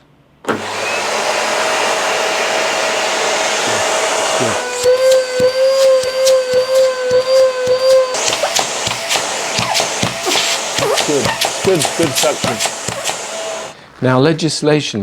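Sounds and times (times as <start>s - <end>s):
vacuum cleaner running: 0.4s - 13.8s.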